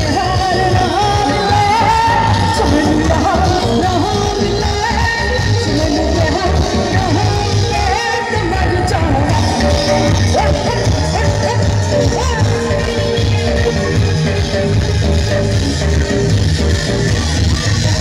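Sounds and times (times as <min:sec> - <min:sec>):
live band music: 0:00.0 - 0:18.0
person singing: 0:00.0 - 0:18.0
pulsing bass beat: 0:00.0 - 0:18.0.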